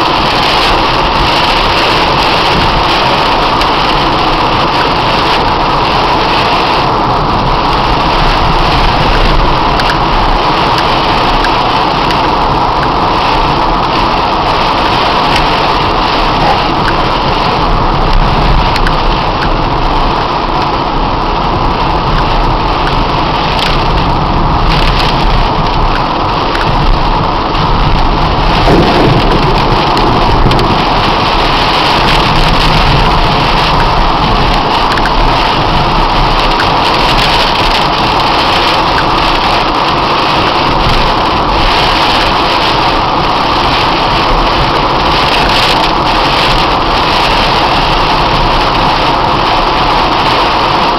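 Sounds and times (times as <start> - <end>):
heavy rain on a car roof: 0.0 - 50.9.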